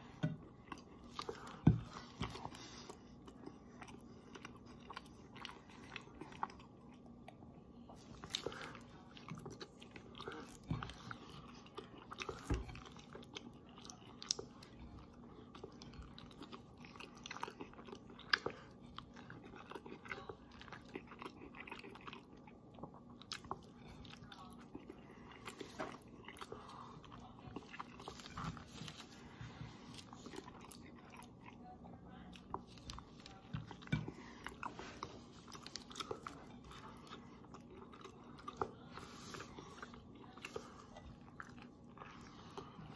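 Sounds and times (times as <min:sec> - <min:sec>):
person chewing: 0:00.0 - 0:42.9.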